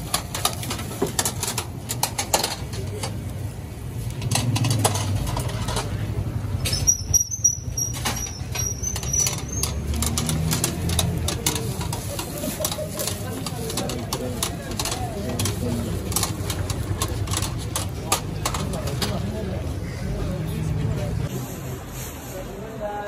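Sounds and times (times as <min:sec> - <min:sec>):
metal skewers clicking: 0:00.0 - 0:03.3, 0:04.0 - 0:19.2
low rumble of street noise: 0:00.0 - 0:23.0.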